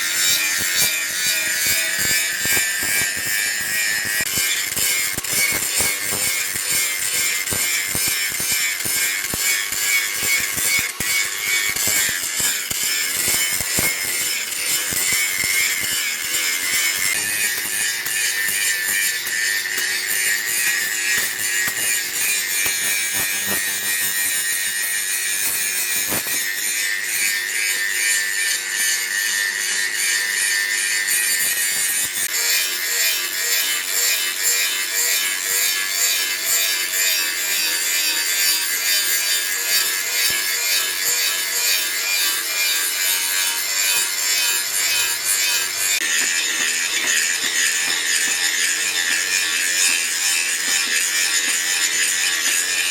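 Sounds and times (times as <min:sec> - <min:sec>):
hand tool rasping: 0:00.0 - 0:52.9.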